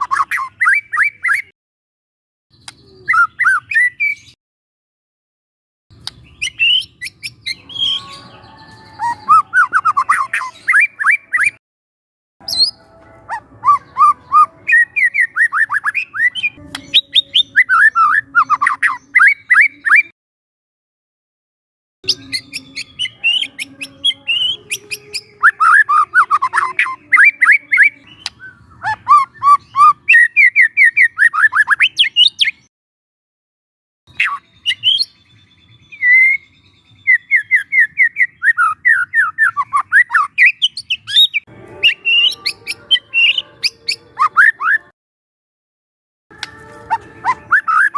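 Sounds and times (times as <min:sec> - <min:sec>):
bird chirping song: 0:00.0 - 0:01.5, 0:02.5 - 0:04.4, 0:05.9 - 0:11.6, 0:12.4 - 0:20.1, 0:22.0 - 0:32.7, 0:34.1 - 0:44.9, 0:46.3 - 0:47.9.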